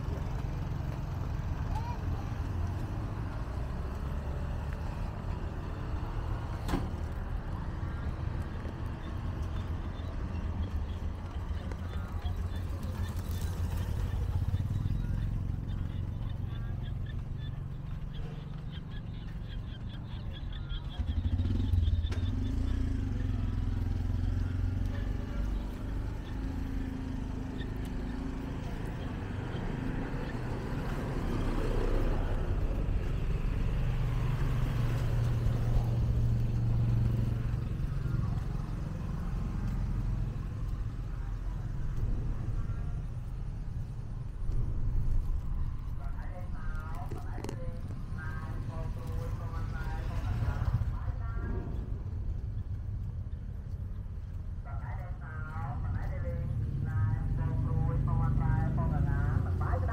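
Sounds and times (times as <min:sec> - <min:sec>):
motorbike engine passing: 0:00.0 - 0:59.9
van engine passing: 0:00.0 - 0:59.9.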